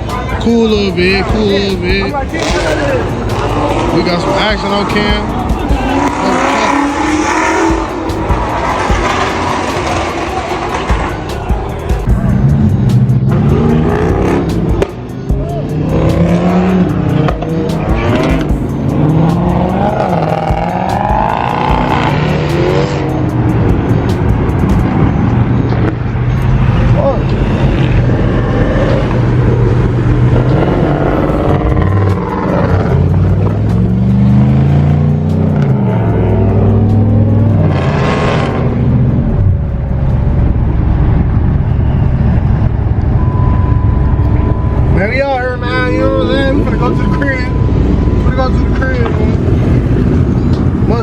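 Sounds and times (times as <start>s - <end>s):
car engine revving high: 0.0s - 51.0s
tires squealing: 0.0s - 51.0s.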